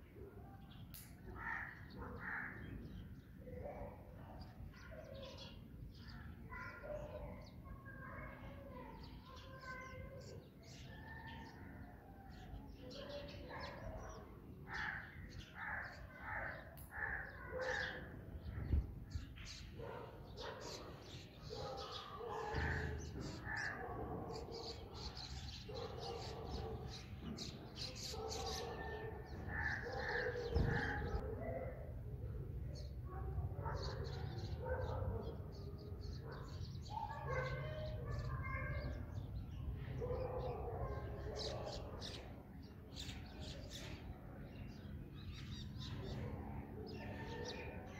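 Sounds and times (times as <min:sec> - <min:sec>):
sparrows chirping: 0:00.0 - 0:47.9.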